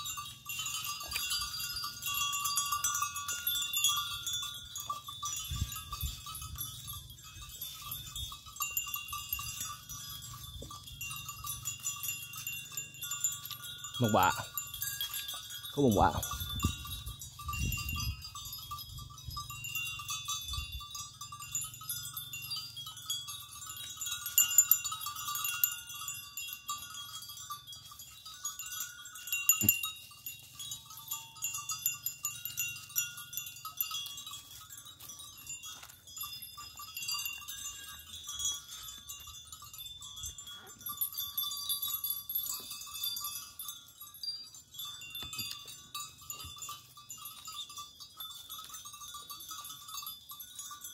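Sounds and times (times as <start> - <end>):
high-pitched chirping and tinkling: 0.0 - 50.9.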